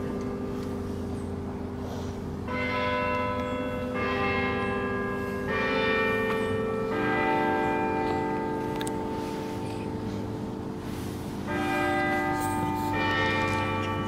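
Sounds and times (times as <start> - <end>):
bells chiming: 0.0 - 14.0.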